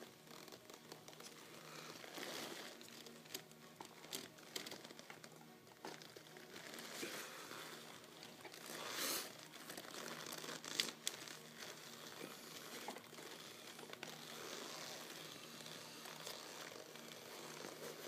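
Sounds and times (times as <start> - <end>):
leather rustling: 0.0 - 18.0.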